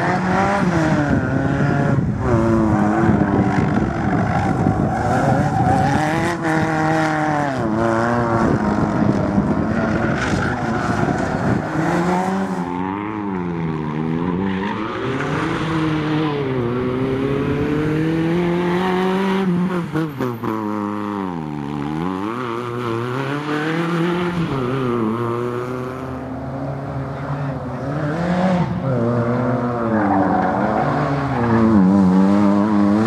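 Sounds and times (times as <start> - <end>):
car engine revving hard: 0.0 - 33.0.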